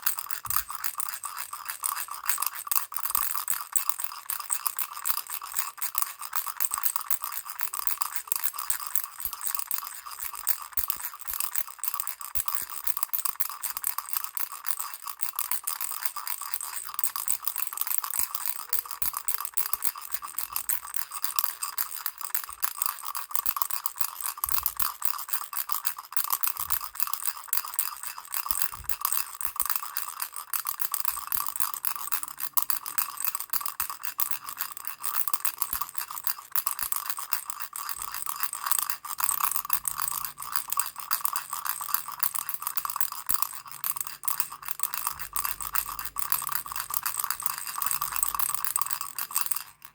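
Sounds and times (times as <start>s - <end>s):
baby rattle shaken: 0.0s - 49.9s.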